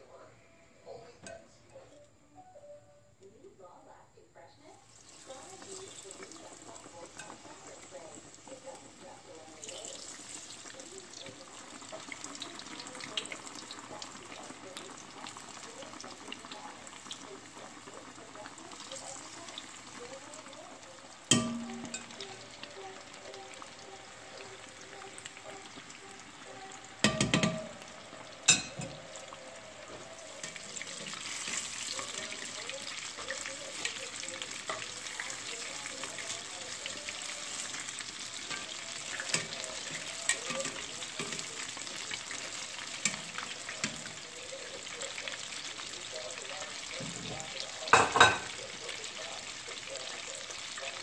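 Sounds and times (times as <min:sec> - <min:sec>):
fish deep-frying in hot oil: 0:04.7 - 0:51.0.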